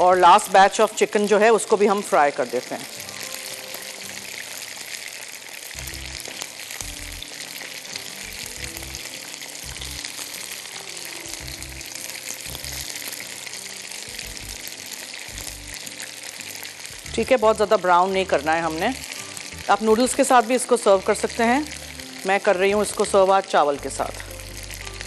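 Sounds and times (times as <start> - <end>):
chicken deep-frying in oil: 0.0 - 25.0
soft background music: 0.0 - 25.0.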